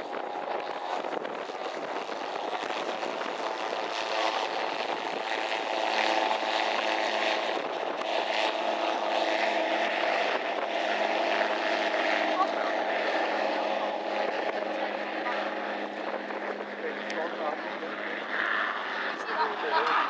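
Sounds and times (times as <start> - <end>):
aircraft engine drone: 0.0 - 20.0.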